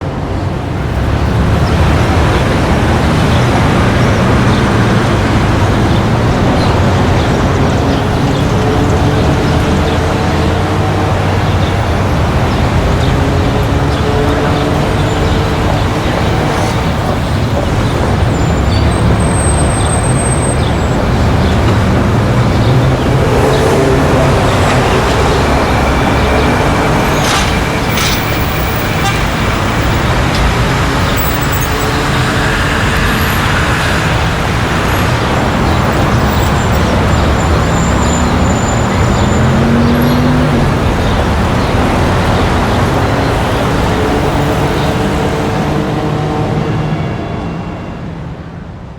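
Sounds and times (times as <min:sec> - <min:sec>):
vehicle engines: 0:00.0 - 0:48.9.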